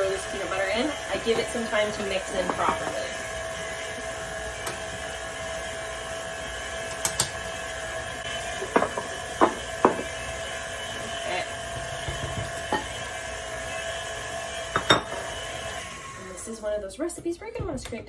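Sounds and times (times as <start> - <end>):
stand mixer motor whine: 0.0 - 16.9.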